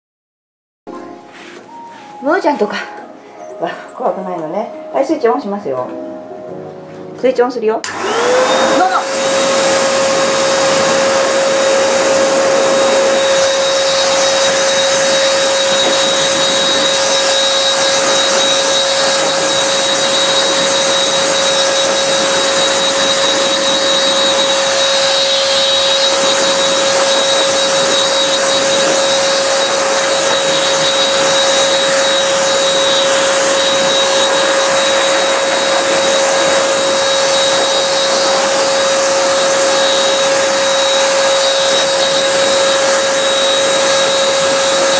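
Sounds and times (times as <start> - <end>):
blower rushing air with whine: 7.8 - 44.9.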